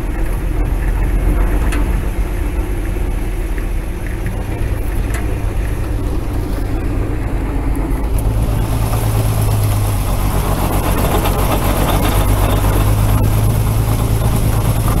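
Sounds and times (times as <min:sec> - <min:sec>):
truck engine humming: 0:00.0 - 0:15.0.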